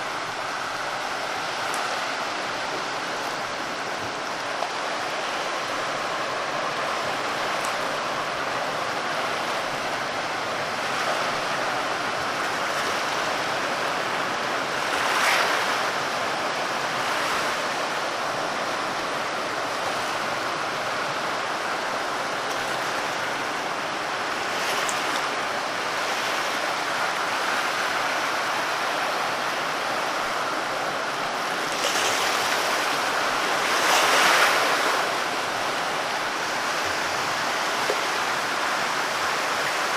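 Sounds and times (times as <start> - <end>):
breaking waves: 0.0 - 39.9
sea waves washing on shore: 0.0 - 39.9.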